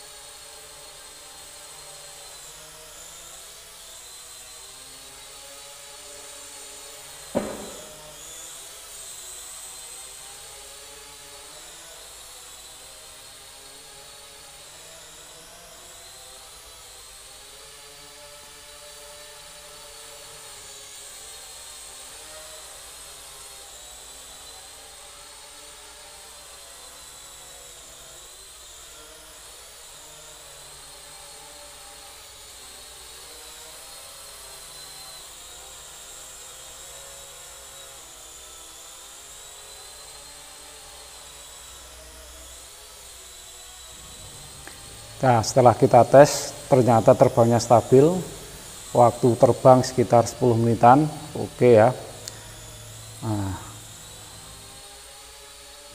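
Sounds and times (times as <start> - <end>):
toy plane propellers whining: 0.0 - 55.9.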